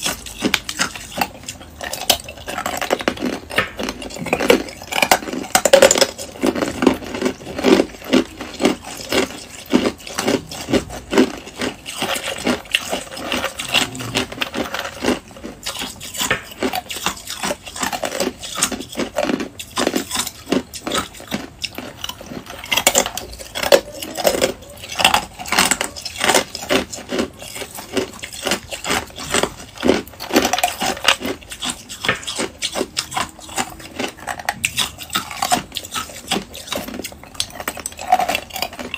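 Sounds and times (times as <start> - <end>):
ice cubes being chewed: 0.0 - 38.9.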